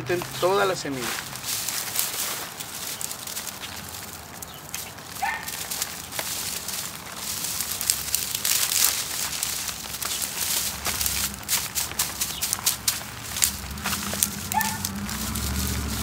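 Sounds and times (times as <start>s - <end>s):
dry seed pods crackling: 0.0s - 16.0s
plastic sheet crinkling: 0.0s - 16.0s.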